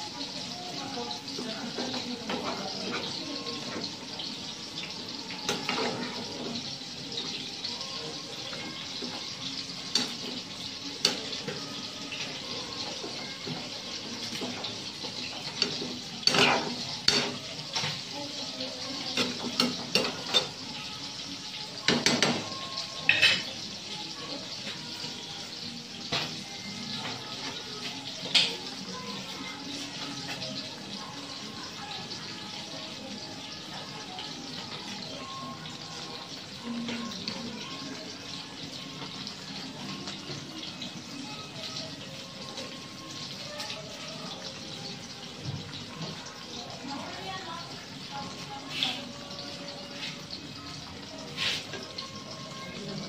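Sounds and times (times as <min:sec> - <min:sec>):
pan simmering with hiss: 0:00.0 - 0:53.0.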